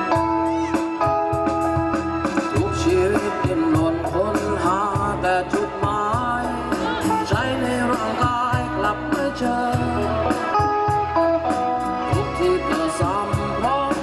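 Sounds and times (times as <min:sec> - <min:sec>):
bass line: 0:00.0 - 0:14.0
drum kit beat: 0:00.0 - 0:14.0
pitch-bending melodic lead: 0:00.0 - 0:14.0.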